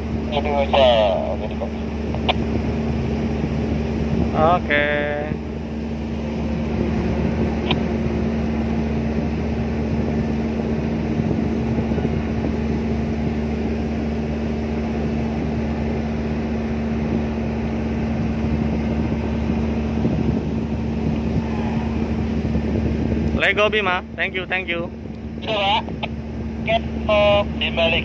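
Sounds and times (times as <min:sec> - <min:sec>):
ship engine droning: 0:00.0 - 0:28.0.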